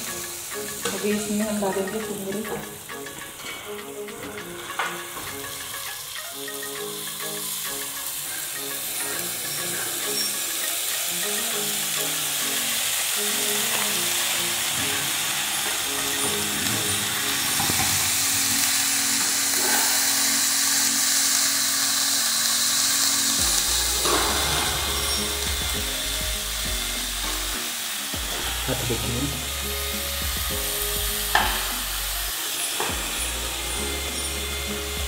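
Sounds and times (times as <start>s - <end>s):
background music: 0.0s - 35.0s
pods sizzling in pan: 0.0s - 35.0s.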